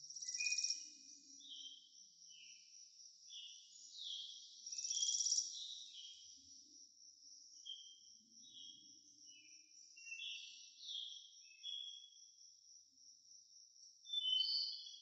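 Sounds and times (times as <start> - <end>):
insects trilling drone: 0.0 - 15.0.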